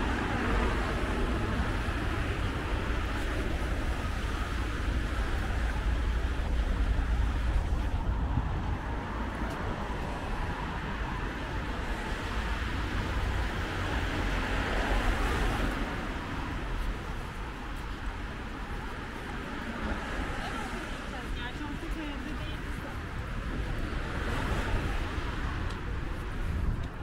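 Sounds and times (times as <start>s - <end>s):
passing cars rumbling: 0.0s - 27.0s.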